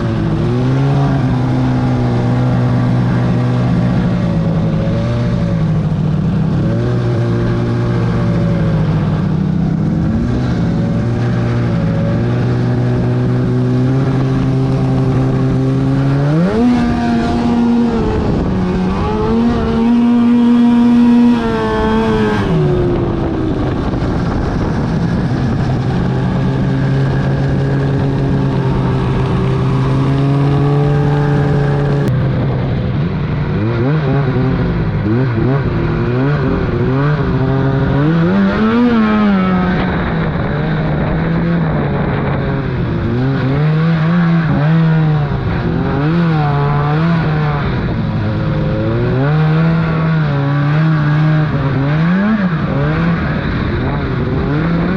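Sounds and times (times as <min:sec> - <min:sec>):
snowmobile engine running: 0:00.0 - 0:54.9.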